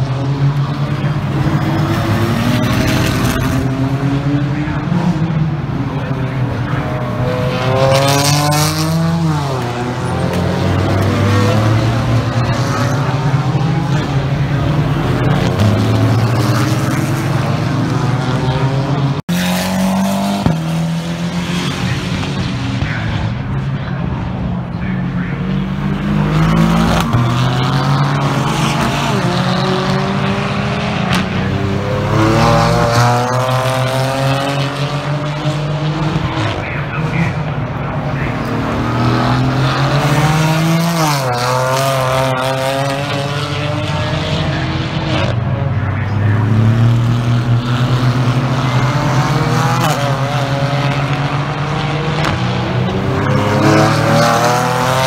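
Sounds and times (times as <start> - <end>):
engines upshifting: 0.0 - 55.0
racing cars passing at speed: 0.0 - 55.0.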